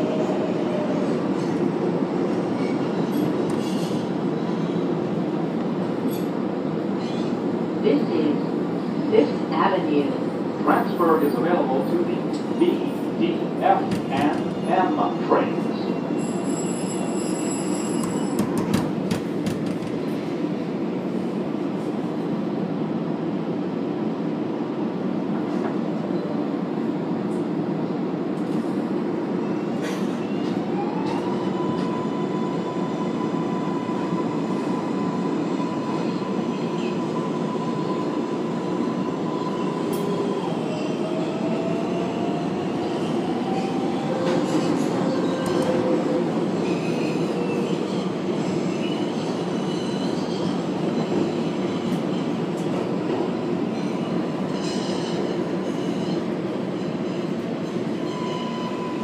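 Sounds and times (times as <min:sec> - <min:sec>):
subway train rumbling: 0:00.0 - 0:59.0.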